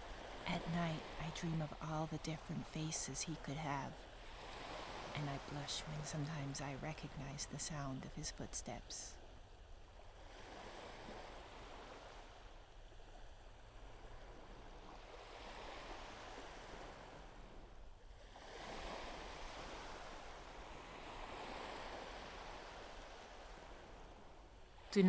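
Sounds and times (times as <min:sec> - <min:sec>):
waves washing onto beach: 0:00.0 - 0:25.0.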